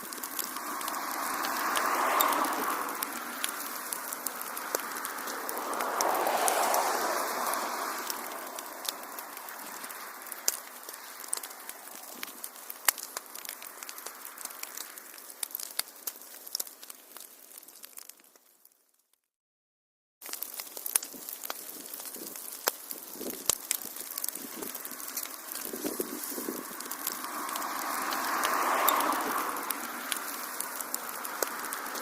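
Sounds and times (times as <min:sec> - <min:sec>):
wood fire crackling and popping: 0:00.0 - 0:19.0, 0:20.2 - 0:32.0.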